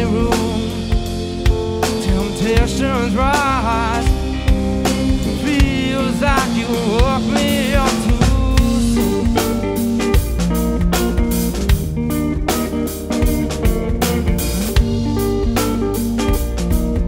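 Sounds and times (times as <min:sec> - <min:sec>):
bass guitar: 0:00.0 - 0:17.0
drum kit backbeat: 0:00.0 - 0:17.0
electric guitars: 0:00.0 - 0:17.0.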